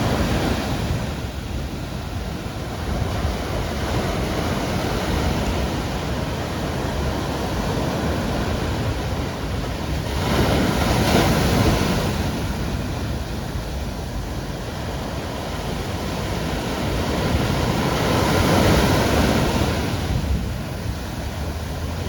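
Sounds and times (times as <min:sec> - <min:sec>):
sea waves breaking: 0:00.0 - 0:22.0.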